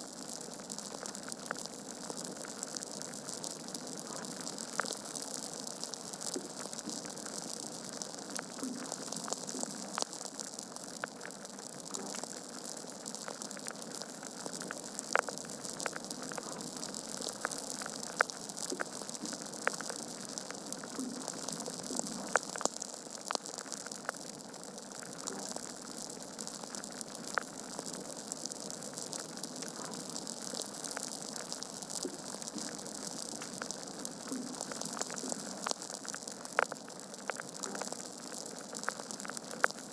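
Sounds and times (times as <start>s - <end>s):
wood fire crackling and popping: 0.3s - 39.9s.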